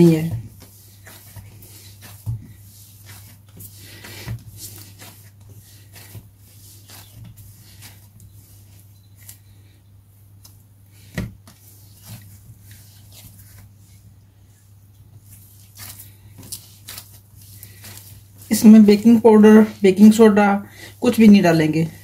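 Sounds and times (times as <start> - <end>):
dough squishing and rubbing: 0.0 - 22.0.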